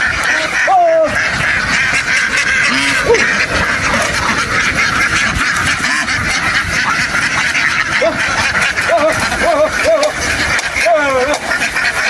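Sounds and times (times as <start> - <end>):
flock of ducks quacking: 0.0 - 12.0
single loud duck calls: 0.0 - 12.0.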